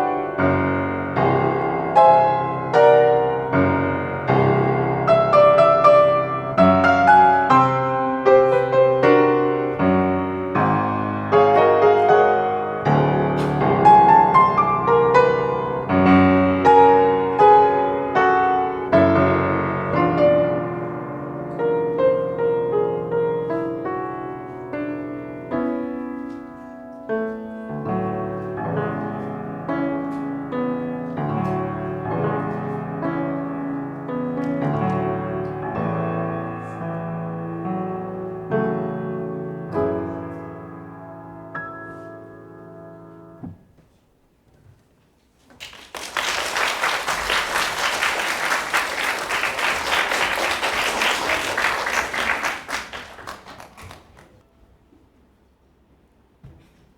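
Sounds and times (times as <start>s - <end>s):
piano playing: 0.0s - 43.6s, 46.3s - 54.4s.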